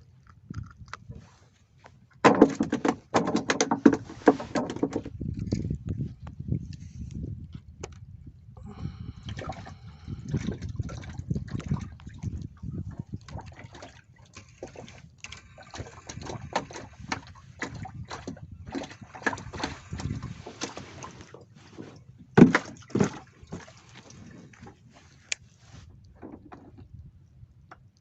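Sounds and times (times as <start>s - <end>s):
water sloshing and lapping: 0.0s - 28.0s.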